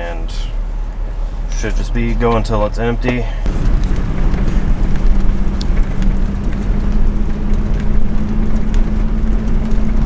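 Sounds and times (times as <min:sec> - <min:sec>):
road noise: 0:00.0 - 0:10.0
truck engine rumble: 0:00.0 - 0:10.0.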